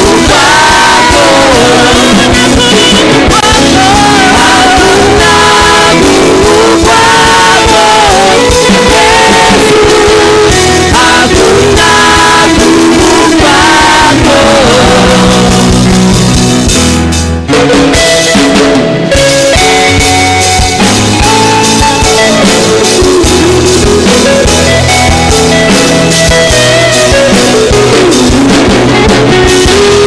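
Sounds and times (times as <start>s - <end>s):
person singing: 0.0s - 16.5s, 20.6s - 30.0s
worship band playing: 0.0s - 30.0s.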